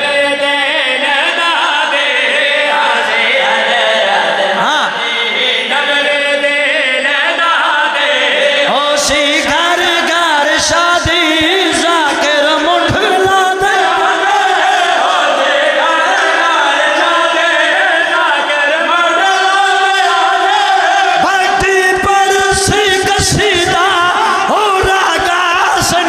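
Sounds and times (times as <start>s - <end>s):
men chanting through pa: 0.0s - 26.0s.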